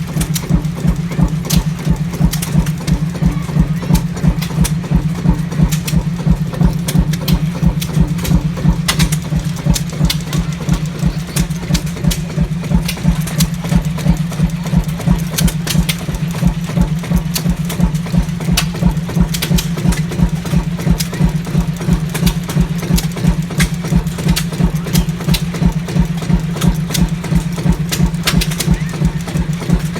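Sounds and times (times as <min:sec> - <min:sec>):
diesel engine thumping: 0:00.0 - 0:29.9.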